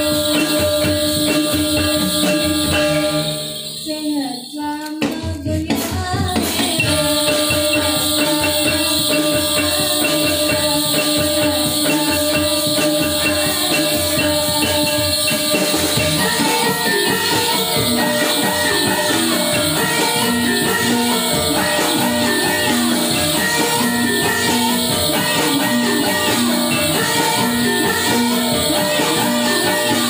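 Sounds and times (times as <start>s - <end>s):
steady held tones: 0.0s - 5.5s, 6.1s - 30.0s
drums: 0.0s - 30.0s
jingling bells: 0.0s - 30.0s.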